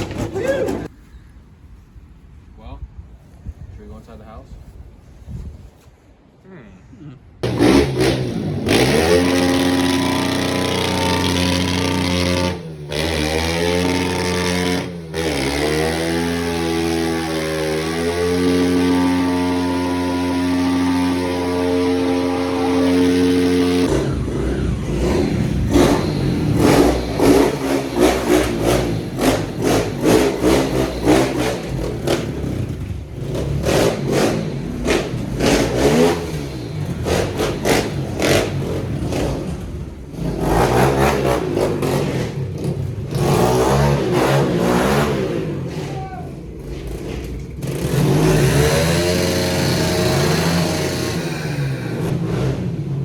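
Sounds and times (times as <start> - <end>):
pit bike engine revving: 7.4 - 53.0.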